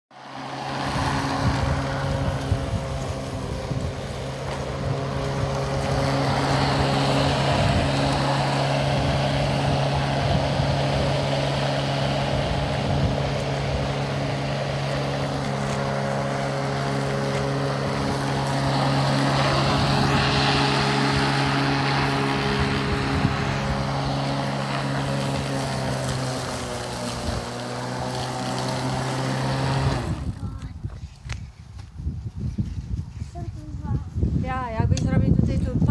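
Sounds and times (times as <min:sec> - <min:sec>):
electric lawn mower running: 0:00.1 - 0:30.6.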